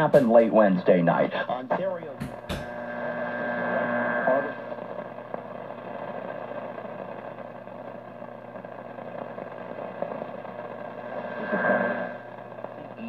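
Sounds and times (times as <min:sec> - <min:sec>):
radio static hiss and hum: 0:00.0 - 0:13.0.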